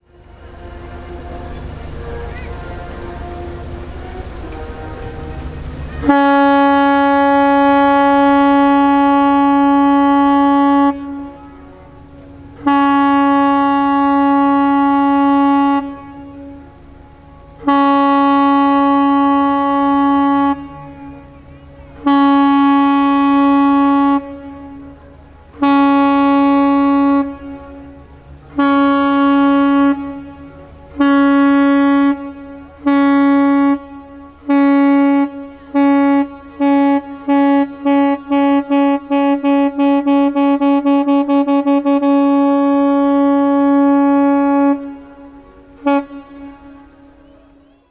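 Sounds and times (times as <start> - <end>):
ship's horn blasts: 0.0 - 47.9.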